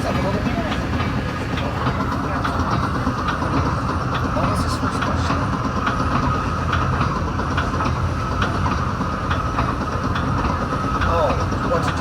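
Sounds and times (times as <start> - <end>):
train rumble from inside coach: 0.0 - 12.0
wheels clicking over rail joints: 0.0 - 12.0.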